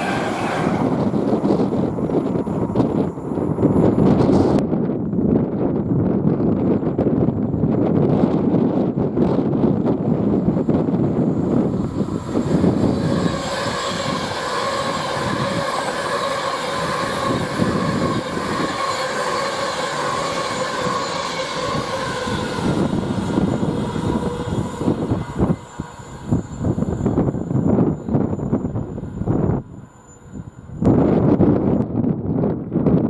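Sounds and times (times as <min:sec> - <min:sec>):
train wheels rushing on rails: 0:00.0 - 0:05.8, 0:07.7 - 0:32.6
high ringing rail tone: 0:00.0 - 0:32.6
wind buffeting microphone: 0:00.0 - 0:33.0.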